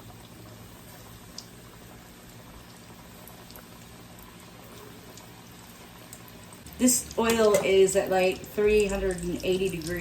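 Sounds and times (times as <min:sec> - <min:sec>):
oil bubbling and sizzling: 0:00.0 - 0:10.0
small crackles of frying: 0:00.0 - 0:10.0.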